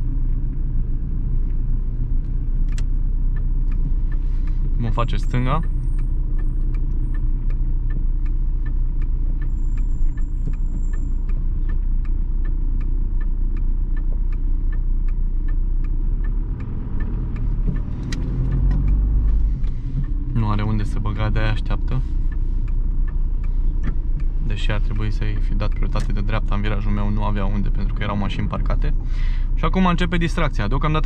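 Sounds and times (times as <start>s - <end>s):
engine and road rumble: 0.0s - 31.0s
turn signal ticking: 0.0s - 31.0s.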